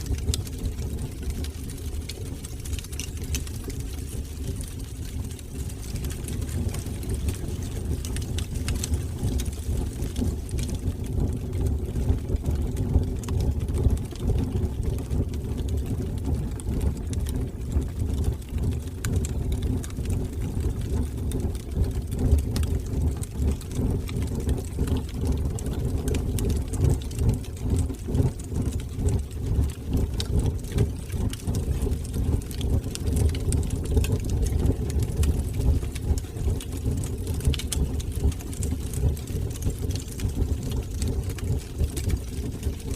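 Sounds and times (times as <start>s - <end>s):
fire crackling: 0.0s - 42.9s
fire flames roaring: 0.0s - 42.9s.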